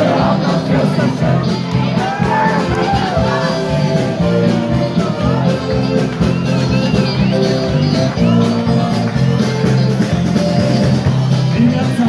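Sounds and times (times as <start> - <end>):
electric guitar: 0.0 - 12.0
live band playing: 0.0 - 12.0
steady drum beat: 0.0 - 12.0.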